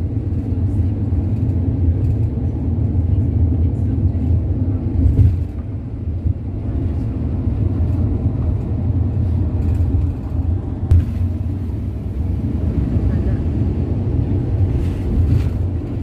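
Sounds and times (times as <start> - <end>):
vehicle driving on highway: 0.0 - 16.0.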